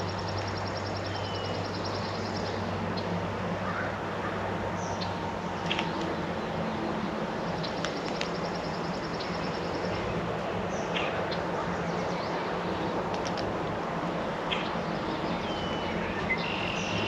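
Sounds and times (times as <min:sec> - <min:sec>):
songbirds chirping: 0:00.0 - 0:17.0
steady background hiss: 0:00.0 - 0:17.0.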